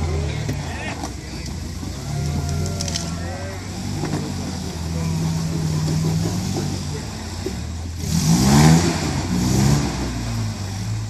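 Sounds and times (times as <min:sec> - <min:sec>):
pickup engine revving under load: 0:00.0 - 0:11.0.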